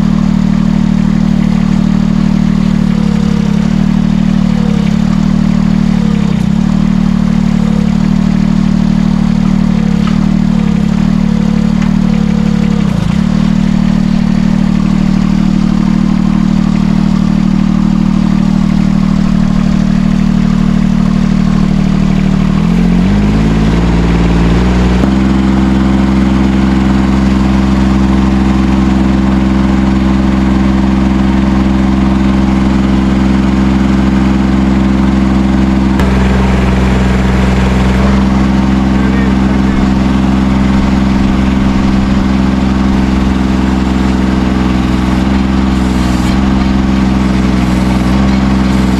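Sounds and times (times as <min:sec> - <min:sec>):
small diesel engine running: 0:00.0 - 0:48.9.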